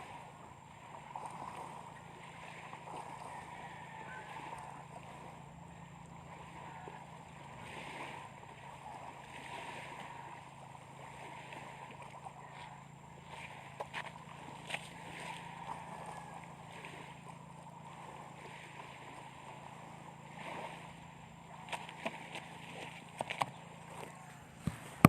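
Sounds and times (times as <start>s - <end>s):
low engine-like drone: 0.0s - 25.0s.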